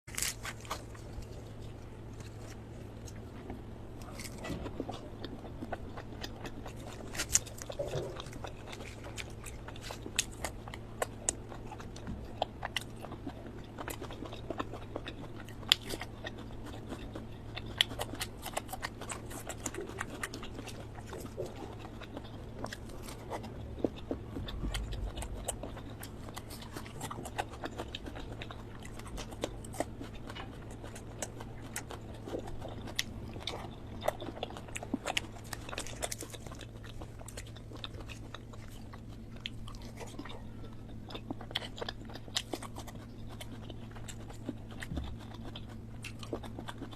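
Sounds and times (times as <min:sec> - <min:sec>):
chewing with wet mouth smacks: 0:00.1 - 0:46.9.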